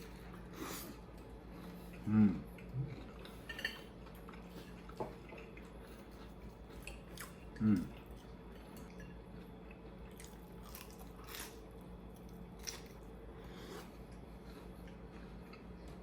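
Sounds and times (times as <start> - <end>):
faint chewing of food: 0.0 - 16.0.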